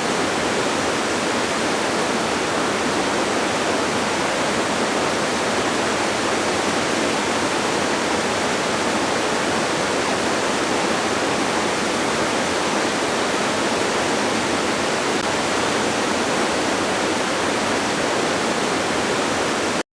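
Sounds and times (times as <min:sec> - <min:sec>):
distant waterfall rushing: 0:00.0 - 0:19.8.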